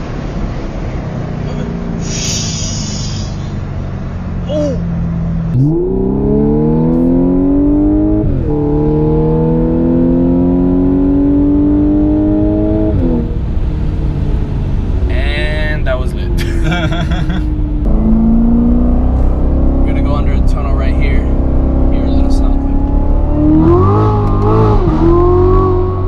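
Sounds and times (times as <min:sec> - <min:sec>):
car engine accelerating hard: 0:00.2 - 0:26.0.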